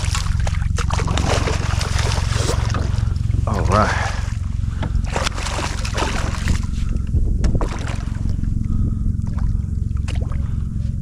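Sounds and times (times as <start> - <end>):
sharp knocks and splashes: 0.0 - 8.4, 9.2 - 10.4
water sloshing around kayak: 0.0 - 11.0
wind rumble on microphone: 0.0 - 11.0.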